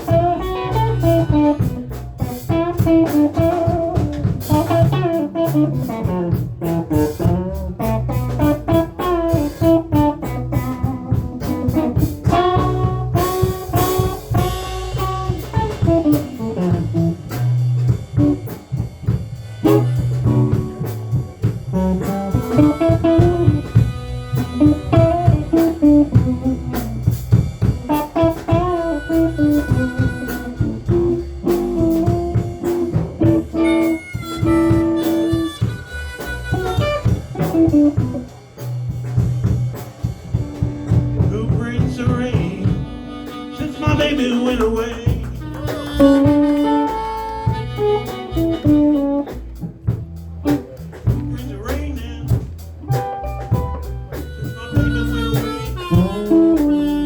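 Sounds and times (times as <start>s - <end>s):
bass guitar: 0.0s - 57.0s
blues guitar: 0.0s - 57.0s
drums: 0.0s - 57.0s.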